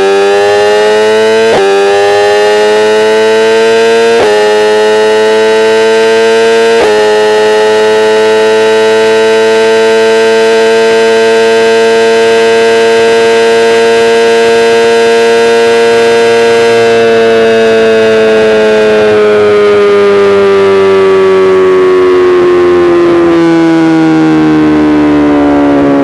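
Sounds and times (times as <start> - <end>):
motorcycle engine at high revs: 0.0 - 26.0.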